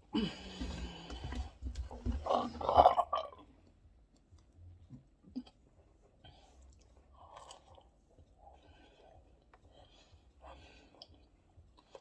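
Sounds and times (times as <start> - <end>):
faint chewing and mouth sounds: 0.1 - 12.0.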